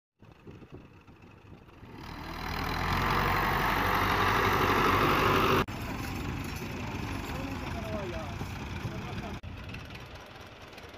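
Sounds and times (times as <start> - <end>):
tractor diesel engine running: 0.2 - 10.9.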